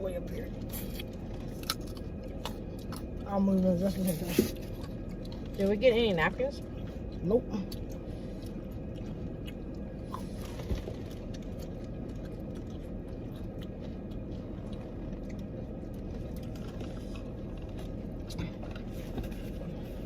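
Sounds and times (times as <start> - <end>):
low hum: 0.0 - 20.0
chewing crispy chicken: 0.2 - 20.0.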